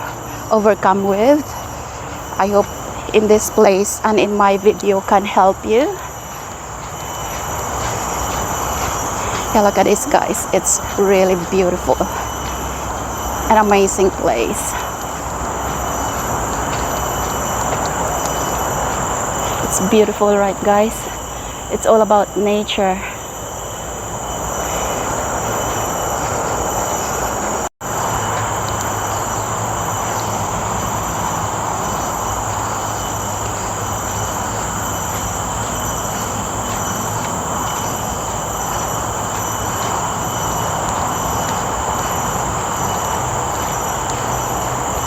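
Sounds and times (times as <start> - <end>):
insects droning: 0.0 - 45.0
road traffic roar: 0.0 - 45.0.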